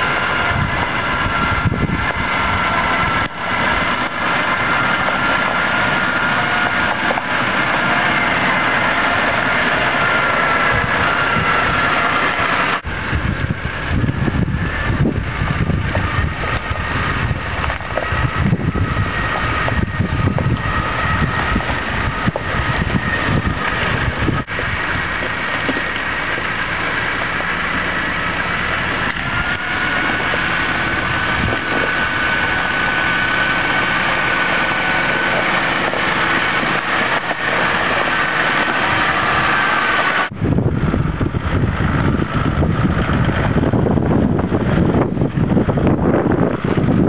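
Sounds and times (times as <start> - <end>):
off-road vehicle engine running: 0.0 - 47.0
steady high whine: 0.0 - 47.0
wind buffeting microphone: 0.0 - 47.0.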